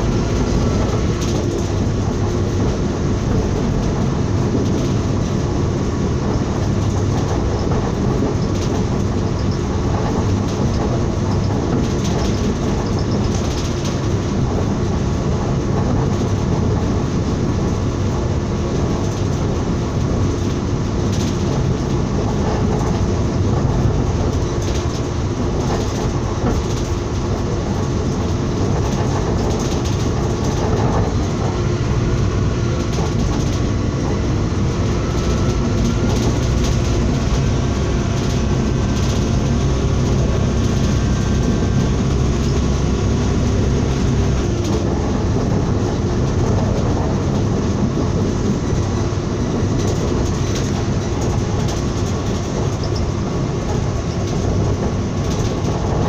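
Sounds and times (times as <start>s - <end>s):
train low rumble: 0.0s - 56.0s
wheels clicking over rails: 0.0s - 56.0s.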